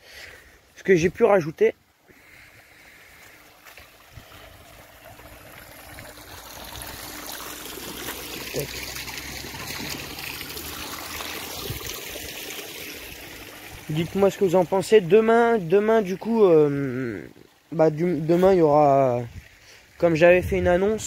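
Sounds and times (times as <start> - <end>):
fountain water splashing into basin: 2.2 - 21.0.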